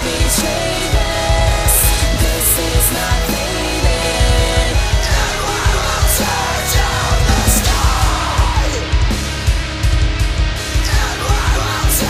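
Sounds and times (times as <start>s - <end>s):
person singing: 0.0s - 9.3s, 10.6s - 12.0s
distorted electric guitars: 0.0s - 12.0s
fast bass drum hits: 0.0s - 12.0s.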